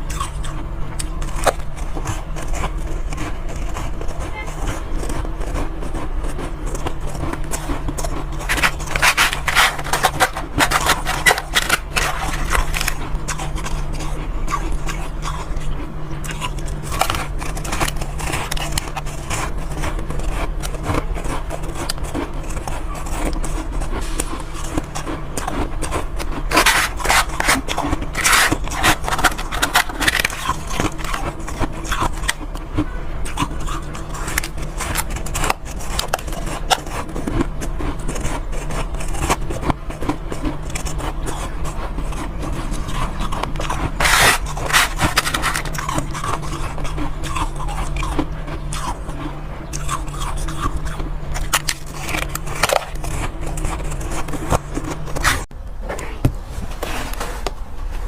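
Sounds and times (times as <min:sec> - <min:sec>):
steady low hum: 0:00.0 - 0:58.0
ice crunching and scraping: 0:06.7 - 0:15.6, 0:16.2 - 0:32.4, 0:33.4 - 0:49.0, 0:49.7 - 0:55.5.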